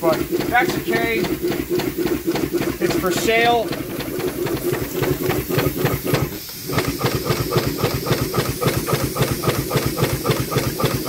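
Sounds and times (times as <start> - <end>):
steam engine exhaust beating: 0.0 - 11.0
steam hissing: 0.0 - 11.0.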